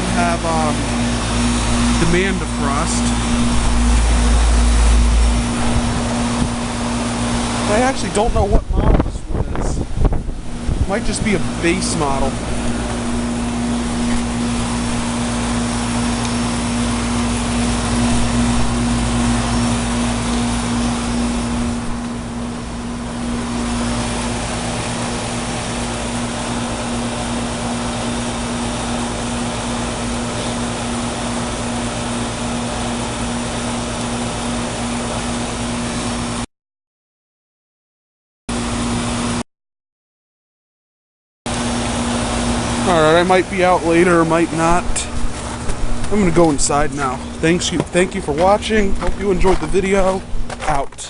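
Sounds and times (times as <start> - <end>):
compressor hum: 0.0 - 36.5, 38.5 - 39.4, 41.5 - 51.0
fan rushing: 0.0 - 36.5, 38.5 - 39.4, 41.5 - 51.0.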